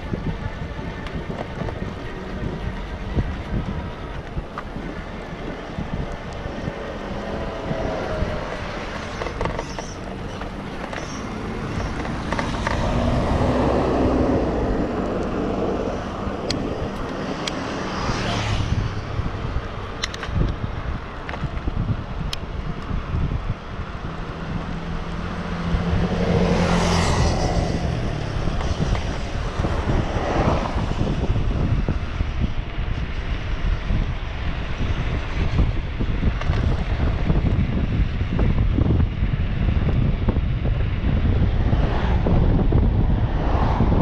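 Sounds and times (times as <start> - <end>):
road traffic: 0.0 - 44.0
vehicles passing: 0.0 - 44.0
wind buffeting microphone: 0.0 - 44.0.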